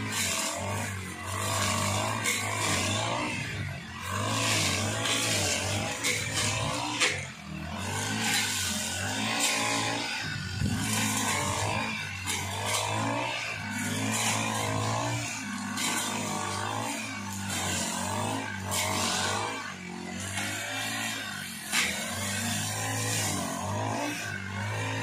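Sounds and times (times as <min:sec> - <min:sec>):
brush cutter engines revving: 0:00.0 - 0:25.0.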